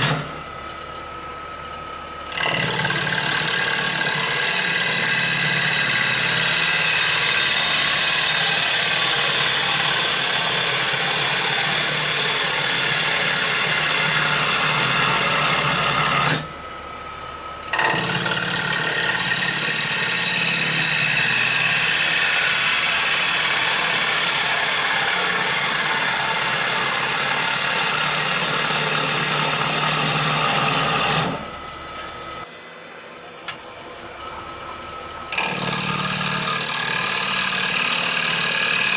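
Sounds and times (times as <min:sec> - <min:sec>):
gouge cutting wood on lathe: 0:00.0 - 0:00.5, 0:02.2 - 0:16.5, 0:17.7 - 0:32.4, 0:35.3 - 0:38.9
lathe running hum: 0:00.0 - 0:38.9.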